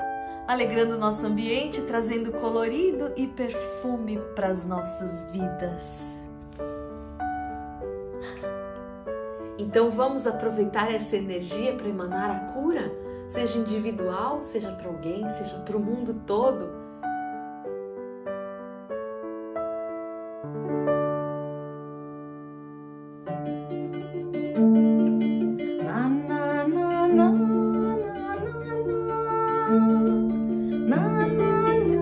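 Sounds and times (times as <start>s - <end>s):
harp melody: 0.0s - 32.0s.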